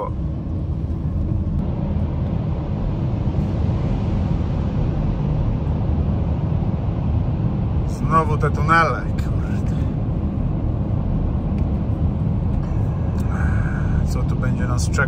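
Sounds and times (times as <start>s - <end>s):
car cabin road and engine drone: 0.0s - 15.0s.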